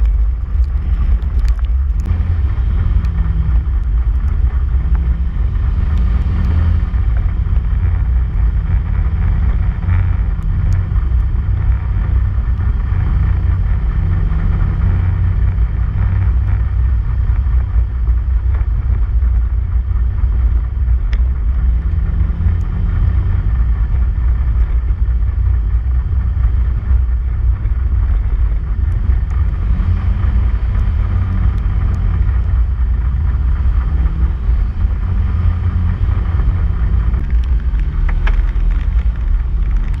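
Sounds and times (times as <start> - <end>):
tyres rumbling on gravel: 0.0 - 40.0
vehicle engine drone: 0.0 - 40.0.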